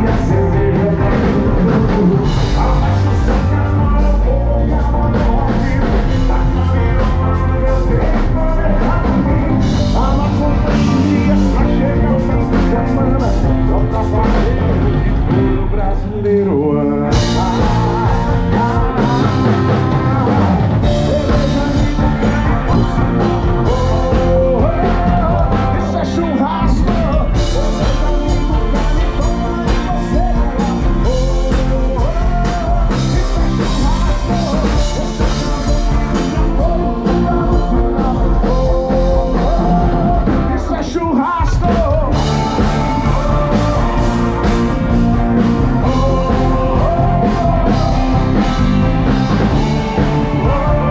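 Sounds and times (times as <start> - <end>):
drums: 0.0 - 50.9
keyboard: 0.0 - 50.9
man singing lead vocal: 0.0 - 50.9.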